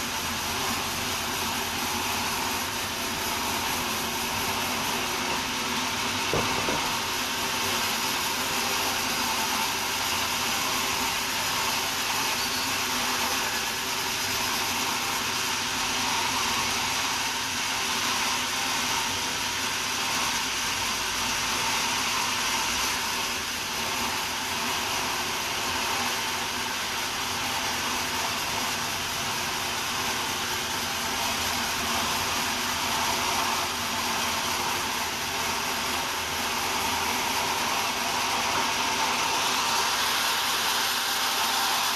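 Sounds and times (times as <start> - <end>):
sawmill saw whirring: 0.0 - 41.9.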